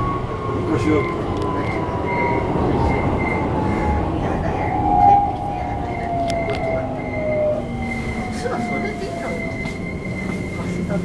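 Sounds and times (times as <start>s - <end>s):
train motor whine: 0.0s - 11.0s
wheel-on-rail rumble: 0.0s - 11.0s.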